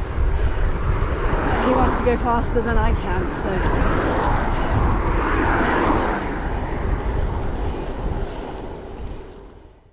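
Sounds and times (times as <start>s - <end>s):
tyre and road noise: 0.0s - 9.9s
wind rushing over camera: 0.0s - 9.9s.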